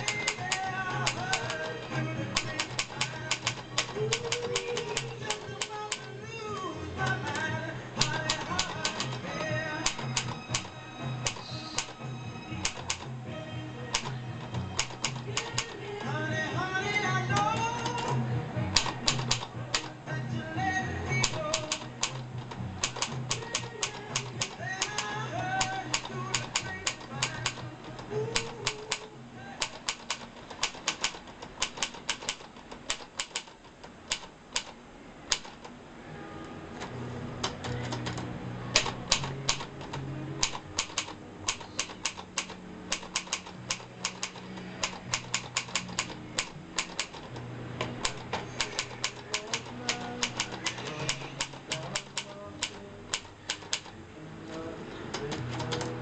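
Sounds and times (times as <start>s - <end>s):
typewriter keys clicking: 0.0s - 12.0s, 12.6s - 13.2s, 13.9s - 16.2s, 16.9s - 20.0s, 21.2s - 35.7s, 36.8s - 56.0s
background music with low notes: 0.0s - 56.0s.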